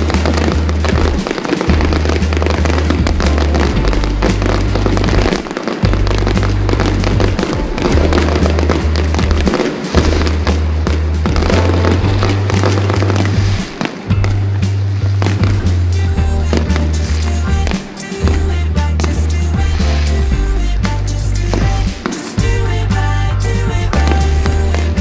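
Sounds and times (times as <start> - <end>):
fireworks crackling and popping: 0.0 - 25.0
music with loud bass: 0.0 - 25.0.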